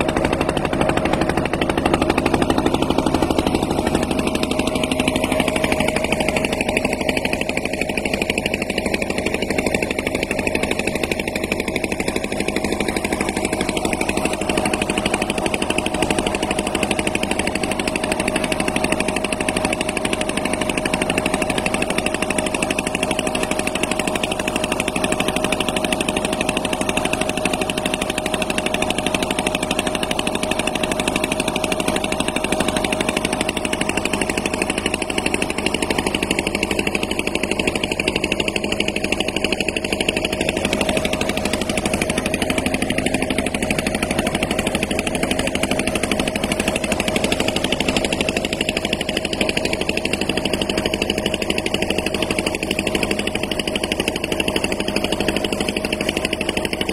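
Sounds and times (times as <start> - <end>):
motorboat engine running: 0.0 - 56.9.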